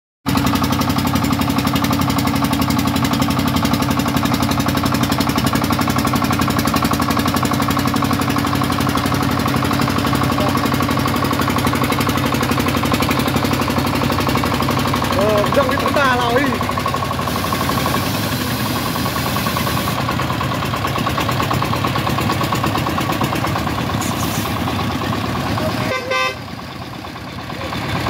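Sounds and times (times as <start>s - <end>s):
truck engine chugging: 0.3s - 28.0s.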